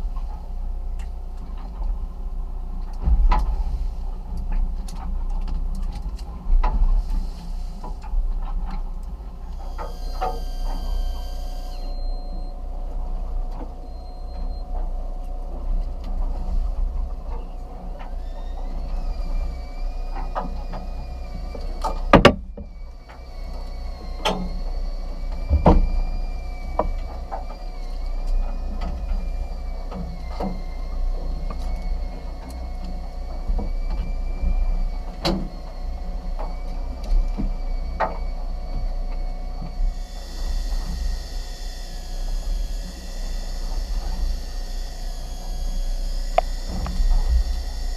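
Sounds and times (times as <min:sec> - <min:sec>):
boat engine rumble: 0:00.0 - 0:47.9
wavering high whine: 0:07.0 - 0:47.9.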